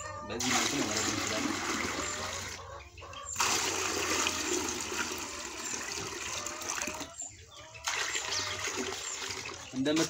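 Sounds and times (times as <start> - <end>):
water splashing into plastic buckets: 0.4 - 2.6, 3.4 - 7.2, 7.8 - 10.0.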